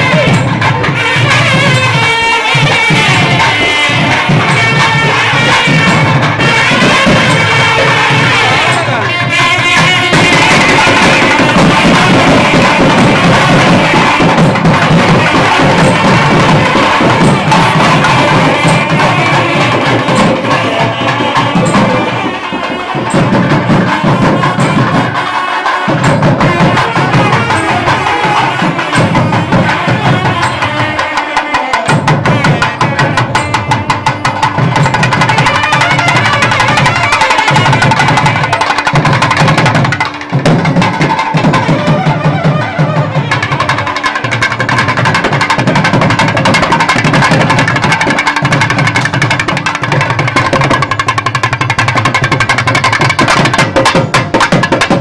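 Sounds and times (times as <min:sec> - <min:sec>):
barrel drums played fast: 0:00.0 - 0:55.0.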